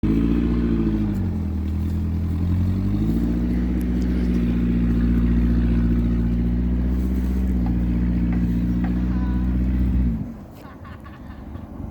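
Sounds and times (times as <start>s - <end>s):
car engine running: 0.0s - 10.4s.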